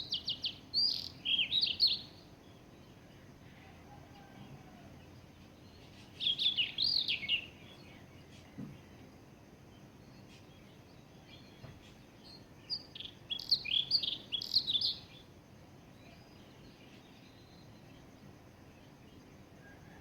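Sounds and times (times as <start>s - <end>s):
faint background hiss: 0.0s - 20.0s.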